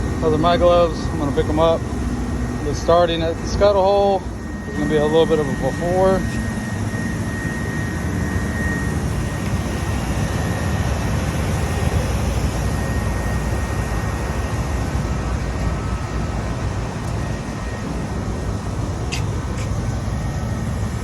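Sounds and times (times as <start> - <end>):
faint high whine: 0.0 - 21.0
hvac units rumbling: 0.0 - 21.0.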